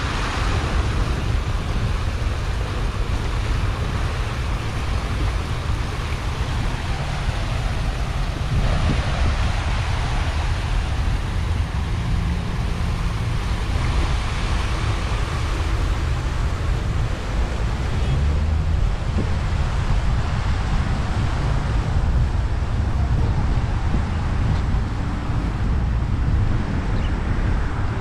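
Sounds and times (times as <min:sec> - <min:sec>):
fountain water cascading over rocks: 0:00.0 - 0:28.0
wind buffeting microphone: 0:00.0 - 0:28.0.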